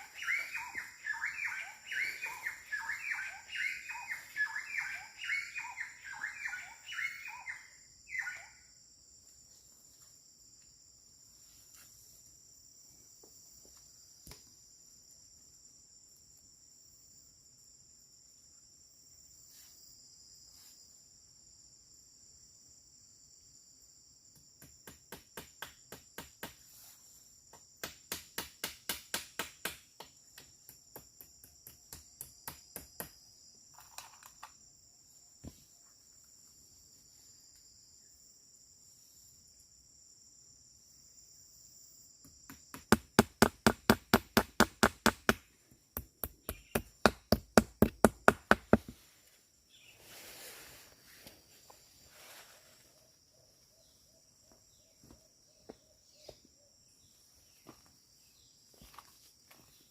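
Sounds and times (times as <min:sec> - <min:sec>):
crickets buzzing: 0:00.0 - 0:59.9.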